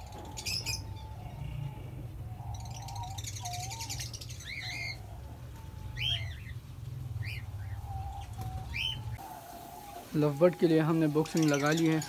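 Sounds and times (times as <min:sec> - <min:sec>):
cage birds chirping: 0:00.0 - 0:12.0.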